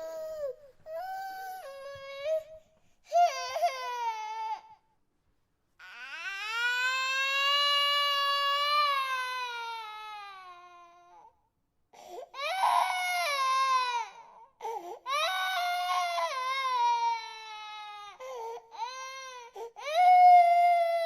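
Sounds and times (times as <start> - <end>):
baby crying: 0.0 - 4.8, 5.8 - 11.3, 12.3 - 21.0.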